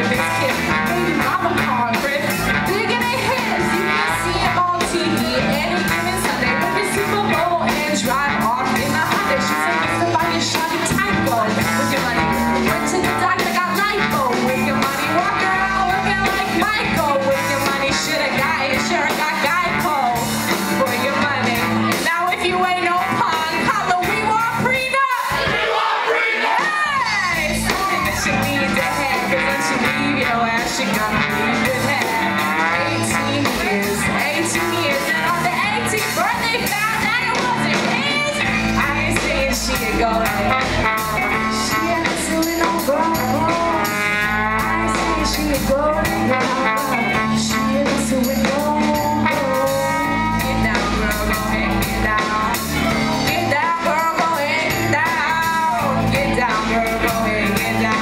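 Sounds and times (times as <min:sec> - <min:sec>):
woman singing: 0:00.0 - 0:25.5, 0:26.4 - 0:58.0
live rock band playing: 0:00.0 - 0:58.0.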